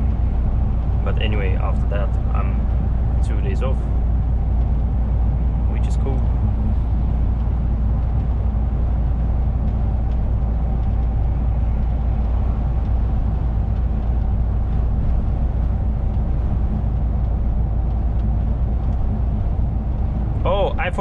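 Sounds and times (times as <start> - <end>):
faint steady hum: 0.0 - 21.0
truck engine and road drone: 0.0 - 21.0.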